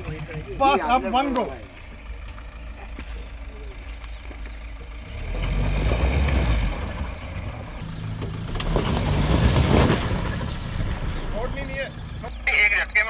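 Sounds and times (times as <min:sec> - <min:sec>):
tyres crunching on rocks: 0:00.0 - 0:11.8
engine pulling hard under load: 0:00.0 - 0:12.4.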